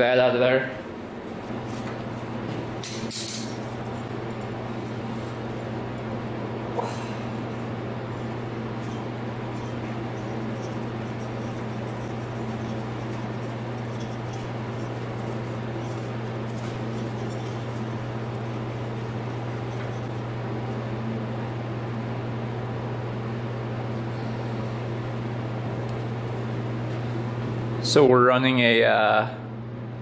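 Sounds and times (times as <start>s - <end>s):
low hum: 0.9s - 27.9s.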